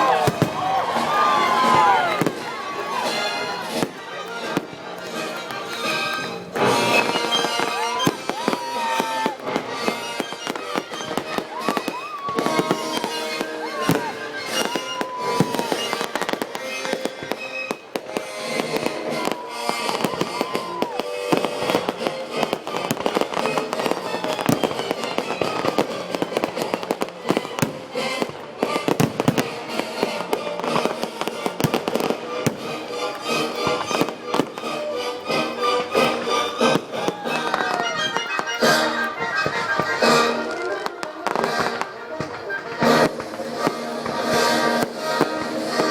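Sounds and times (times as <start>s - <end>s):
loud music: 0.0s - 17.3s, 17.9s - 45.9s
fireworks bangs and crackling: 0.0s - 45.9s
fireworks whistling: 0.0s - 45.9s.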